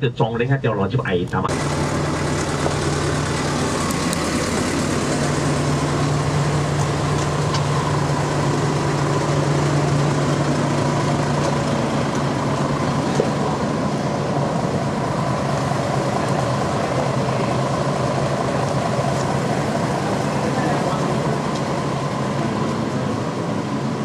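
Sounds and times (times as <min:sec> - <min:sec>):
coach engines idling: 0:00.0 - 0:24.0.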